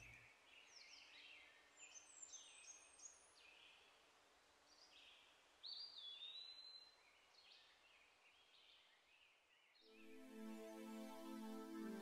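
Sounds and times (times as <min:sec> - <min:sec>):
faint birdsong: 0:00.0 - 0:11.3.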